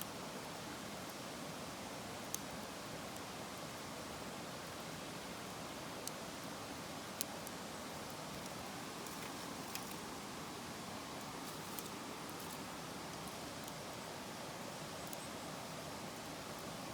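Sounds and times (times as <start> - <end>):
steady low hiss: 0.0 - 16.9.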